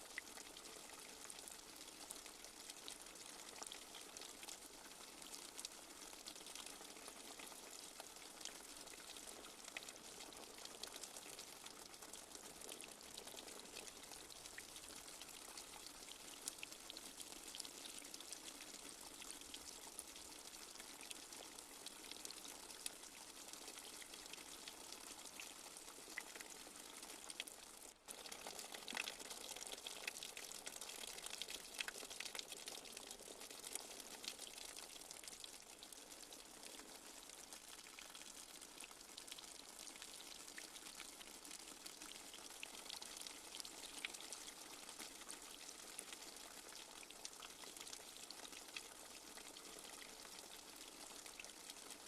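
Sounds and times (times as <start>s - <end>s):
light rain pattering: 0.0s - 52.0s.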